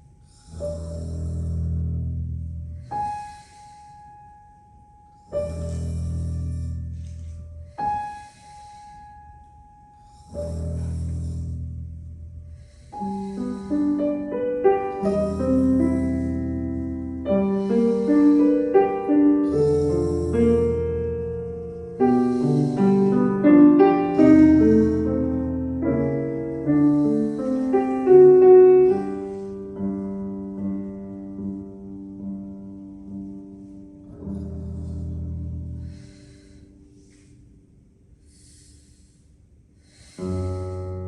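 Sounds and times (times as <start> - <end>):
slow piano melody: 0.0 - 38.7.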